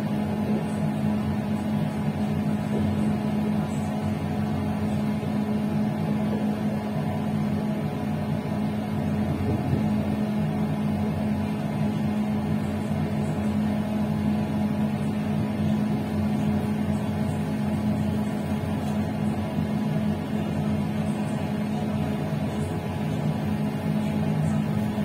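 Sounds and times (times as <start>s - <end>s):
electric train droning hum: 0.0s - 25.0s.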